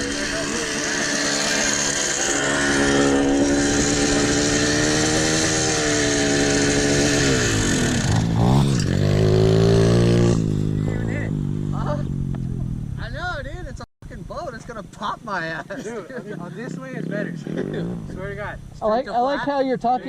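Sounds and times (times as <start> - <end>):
pit bike engine revving: 0.0 - 13.2, 15.7 - 19.0.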